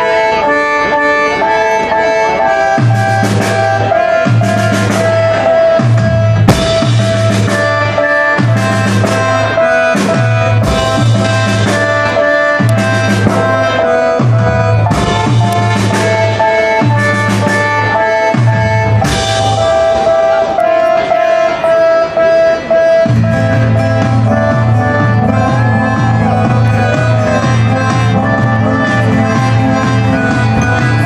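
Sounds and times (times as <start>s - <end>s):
guitars: 0.0s - 31.0s
repeating bass figure: 0.0s - 31.0s
drum kit: 2.7s - 21.1s, 23.0s - 31.0s.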